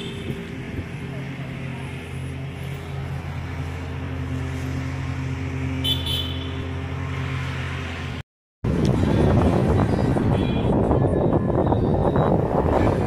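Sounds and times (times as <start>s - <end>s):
engine-like hum: 0.0s - 13.0s.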